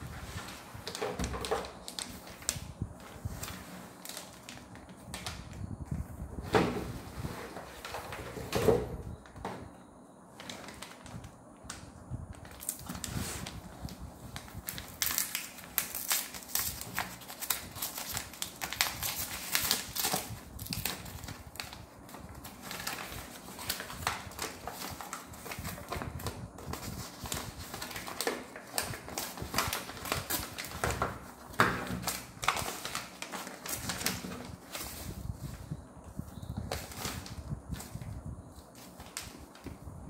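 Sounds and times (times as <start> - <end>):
paper flicking and rustling: 0.0 - 5.6, 12.4 - 35.8, 36.6 - 39.8.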